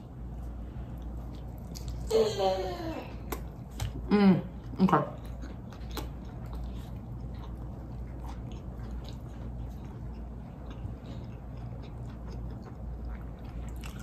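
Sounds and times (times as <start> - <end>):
person chewing bread: 0.0 - 2.2, 3.1 - 14.0
low steady hum: 0.0 - 14.0.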